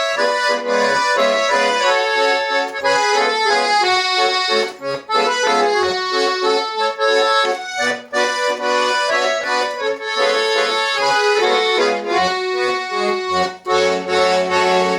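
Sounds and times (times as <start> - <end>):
solo accordion folk tune: 0.0 - 14.9.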